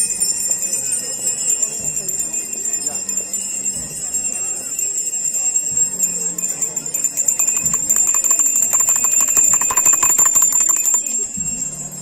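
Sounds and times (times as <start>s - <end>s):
small hand bells shaken: 0.0s - 12.0s.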